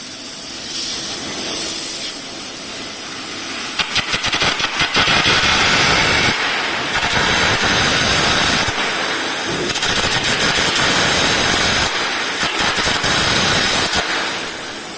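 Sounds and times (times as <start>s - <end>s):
gouging machine hissing on steel: 0.0s - 14.9s.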